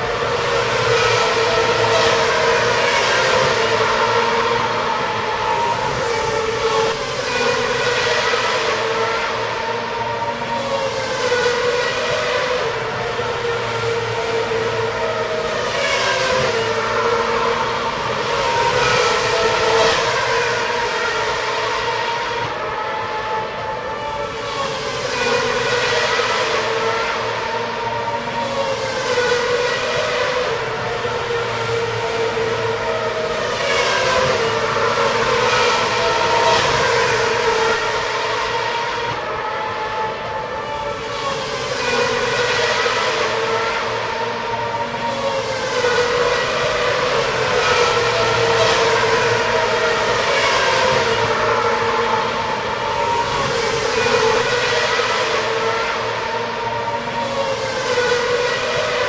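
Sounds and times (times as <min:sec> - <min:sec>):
racing cars passing: 0:00.0 - 0:59.0.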